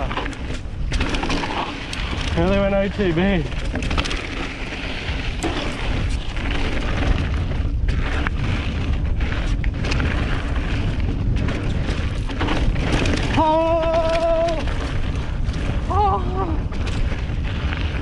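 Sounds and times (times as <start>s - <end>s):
bike knocks and rattles: 0.0s - 18.0s
bike rolling over dirt trail: 0.0s - 18.0s
wind buffeting microphone: 0.0s - 18.0s.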